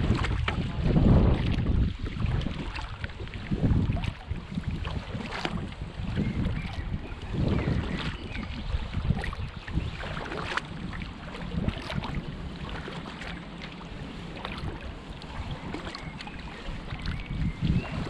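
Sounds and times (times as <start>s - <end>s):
paddle splashing water: 0.0s - 18.0s
wind rumble on microphone: 0.0s - 18.0s.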